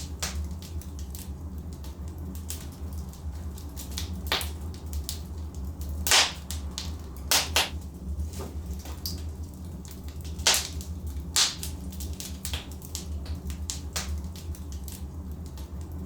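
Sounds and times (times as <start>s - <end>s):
logs crackling in fireplace: 0.0s - 16.0s
low fire rumble: 0.0s - 16.0s.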